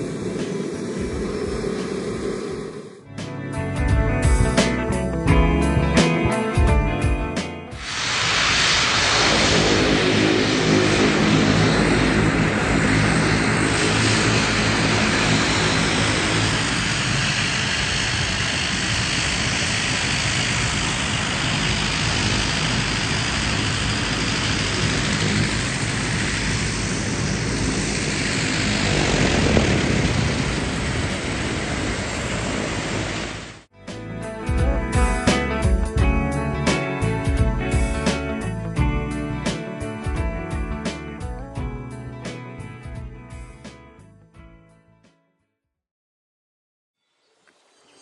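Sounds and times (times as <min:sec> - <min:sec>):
propeller aircraft engine running: 0:00.0 - 0:43.8.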